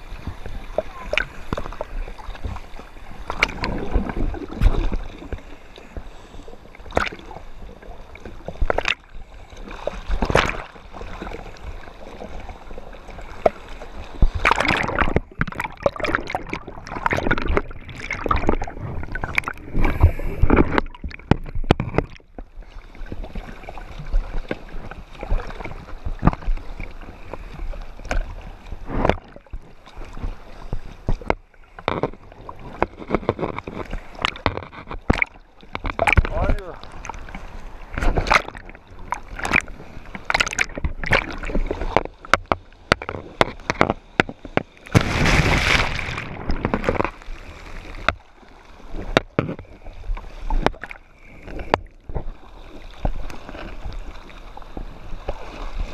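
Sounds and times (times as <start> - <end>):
underwater gurgling: 0.0 - 55.9
water sloshing and splashing: 0.0 - 55.9.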